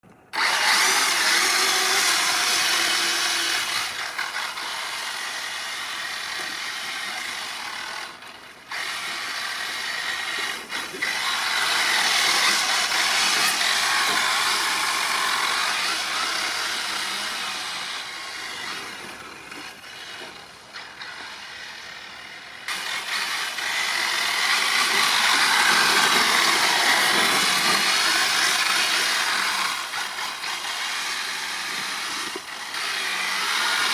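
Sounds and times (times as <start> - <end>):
electric motor whining: 0.3 - 33.9.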